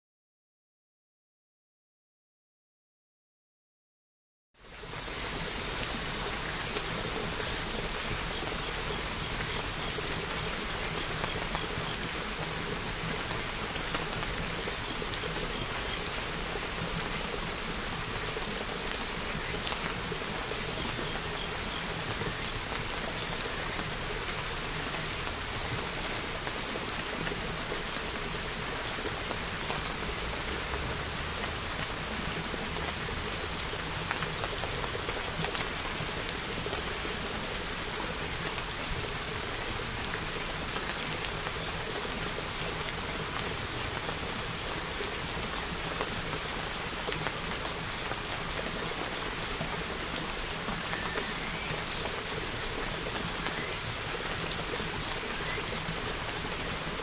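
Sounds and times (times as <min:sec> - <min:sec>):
steady rain falling: 0:04.6 - 0:57.0.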